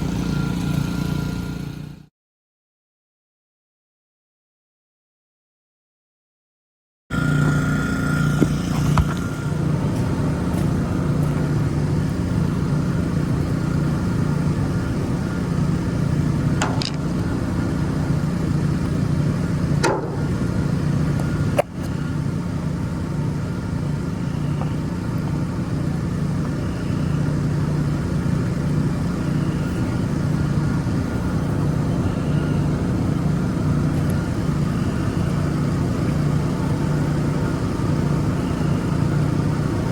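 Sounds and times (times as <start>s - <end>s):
pressure washer engine running: 0.0s - 2.1s, 7.1s - 39.9s.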